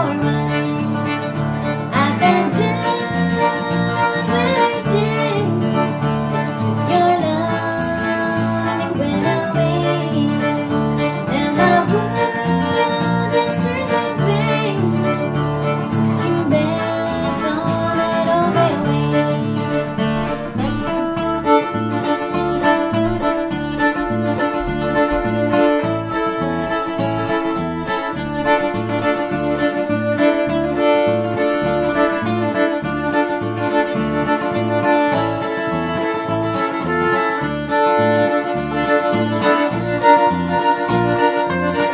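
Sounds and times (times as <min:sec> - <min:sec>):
bass line: 0:00.0 - 0:41.7
fiddle melody: 0:00.0 - 0:41.9
strummed acoustic guitar: 0:00.0 - 0:41.9.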